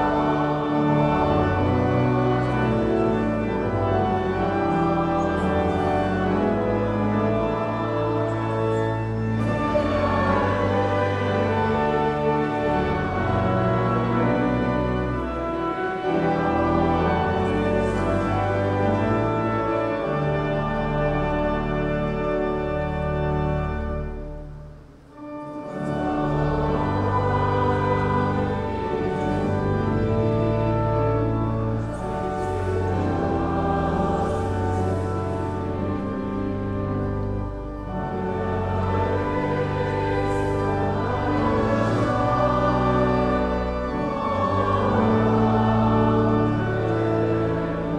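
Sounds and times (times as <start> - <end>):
pipe organ playing chords: 0.0 - 47.9.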